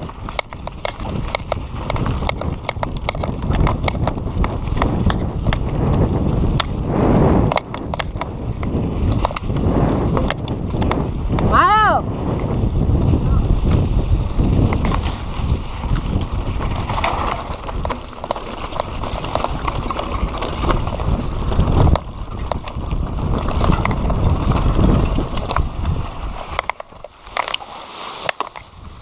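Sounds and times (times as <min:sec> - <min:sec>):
bike clicks and rattles: 0:00.0 - 0:29.0
wind rumble on microphone: 0:00.0 - 0:29.0.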